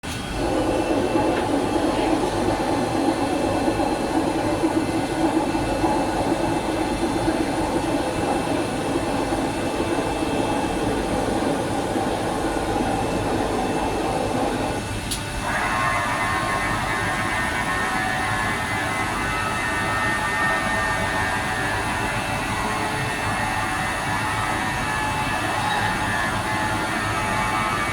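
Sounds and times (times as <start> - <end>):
machine whine: 0.1 - 27.9
milling machine droning: 0.1 - 27.9.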